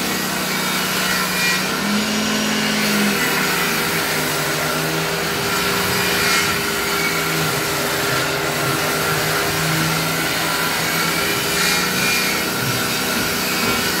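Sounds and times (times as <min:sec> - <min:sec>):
hand saw rasping through wood: 0:00.0 - 0:14.0
machine drone hum: 0:00.0 - 0:14.0.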